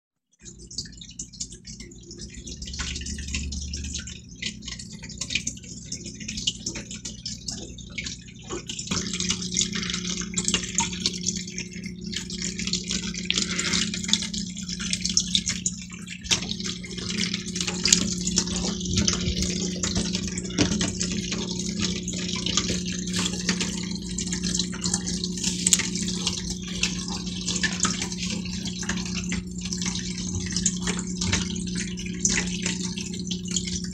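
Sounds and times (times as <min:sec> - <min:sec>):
water trickling and splashing: 0:00.3 - 0:33.9
filter motor hum: 0:00.4 - 0:33.9.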